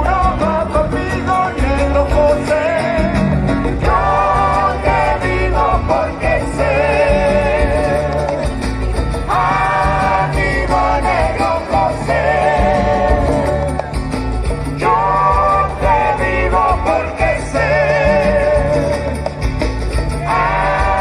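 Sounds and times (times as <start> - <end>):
person singing: 0.0 - 8.6, 9.3 - 19.5, 20.2 - 21.0
folk band playing live: 0.0 - 21.0.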